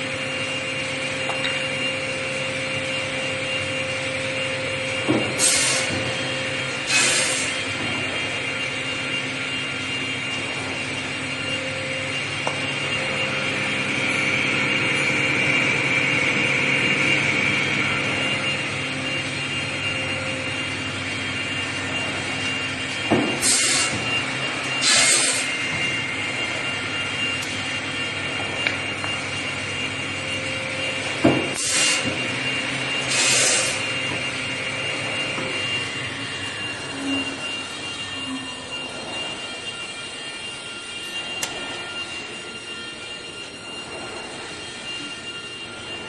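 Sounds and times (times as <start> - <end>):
pneumatic saw whining: 0.0 - 46.0
loud bursts of saw noise: 3.9 - 46.0.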